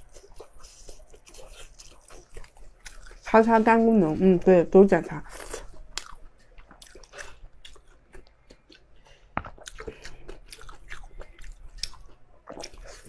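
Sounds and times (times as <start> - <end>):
chewing and biting: 0.0 - 4.2, 5.2 - 13.0.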